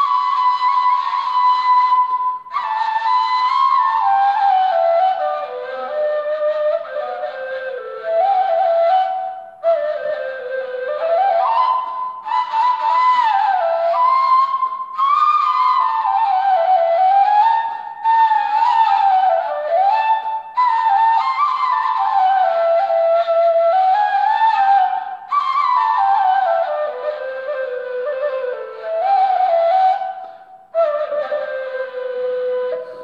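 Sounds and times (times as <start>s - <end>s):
breathy reed flute melody: 0.0s - 33.0s.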